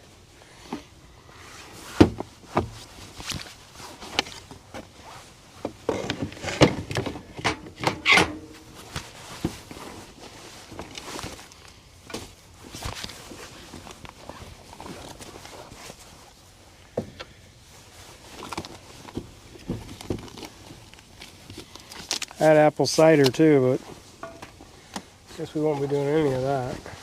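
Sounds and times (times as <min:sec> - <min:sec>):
camp gear knocking and clattering: 0:00.6 - 0:16.2, 0:18.3 - 0:22.3, 0:23.3 - 0:27.0.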